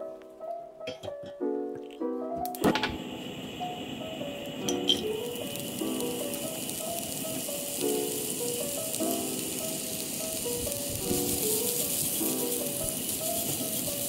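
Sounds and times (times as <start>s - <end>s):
plucked background melody: 0.0s - 14.0s
carrots sizzling in hot oil: 2.6s - 14.0s.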